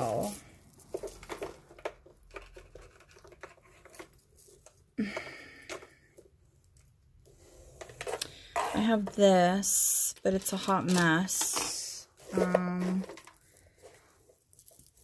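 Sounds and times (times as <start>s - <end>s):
hands rummaging through jewelry: 0.0s - 15.0s.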